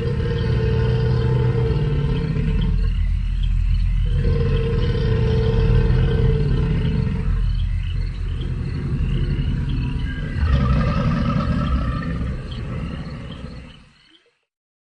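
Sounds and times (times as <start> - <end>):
low rumbling creature call: 0.0 - 14.0
insects chirping: 0.0 - 14.5.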